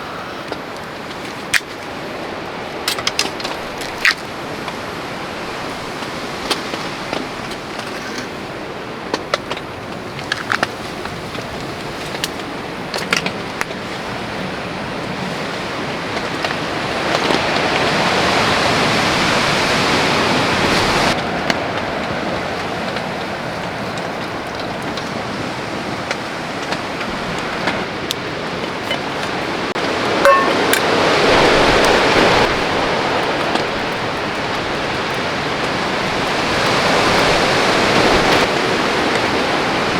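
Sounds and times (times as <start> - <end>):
steady rain: 0.0 - 30.2, 30.9 - 39.9
wind gusting through trees: 0.0 - 39.9.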